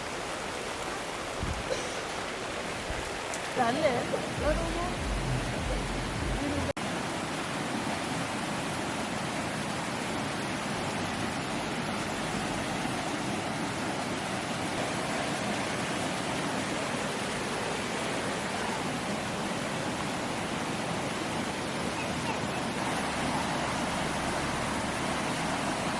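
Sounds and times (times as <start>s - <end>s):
water rushing: 0.0s - 25.9s.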